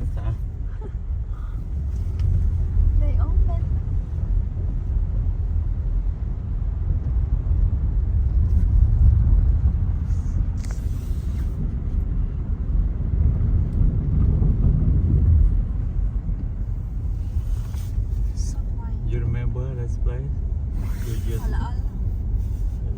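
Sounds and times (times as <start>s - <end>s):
car interior driving rumble: 0.0s - 22.9s.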